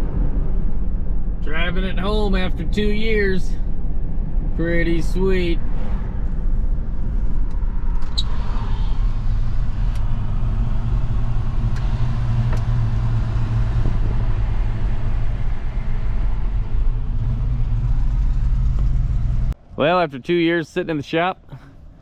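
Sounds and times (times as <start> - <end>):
pickup truck engine: 0.0 - 22.0
road noise: 0.0 - 22.0.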